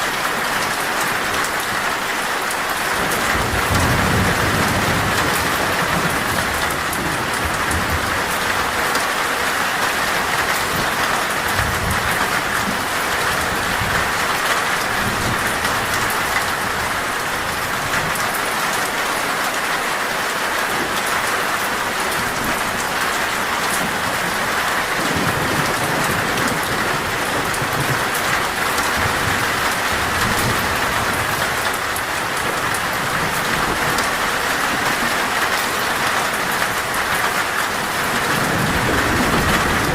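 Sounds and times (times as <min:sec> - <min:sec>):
heavy rain on a metal roof: 0:00.0 - 0:39.9
thunder rumbling: 0:03.0 - 0:18.2, 0:22.2 - 0:39.9.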